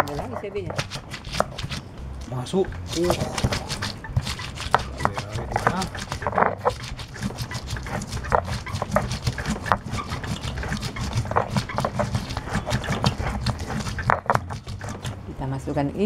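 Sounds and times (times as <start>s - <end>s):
stone pestle grinding on stone: 0.0s - 15.4s.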